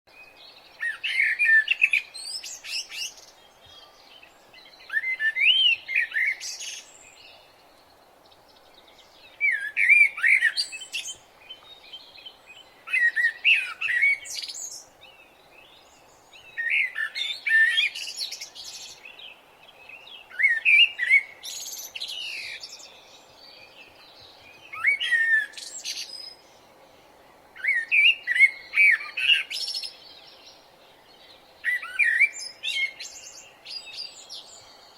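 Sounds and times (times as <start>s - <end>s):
faint steady background noise: 0.1s - 34.9s
birds chirping: 0.2s - 34.9s.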